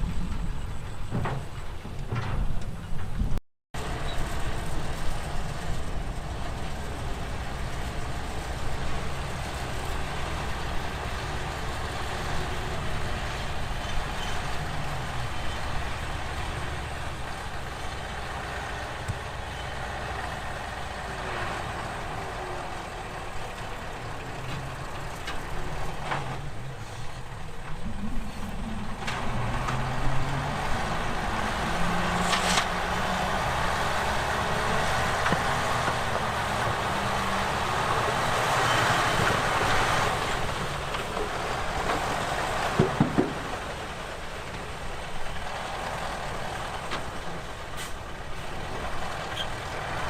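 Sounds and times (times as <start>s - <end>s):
diesel machinery engine rumble: 0.0s - 50.0s.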